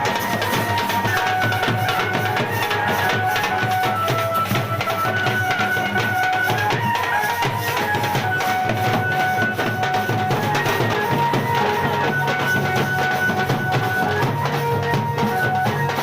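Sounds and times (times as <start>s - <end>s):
fast dense drum beats: 0.0s - 16.0s.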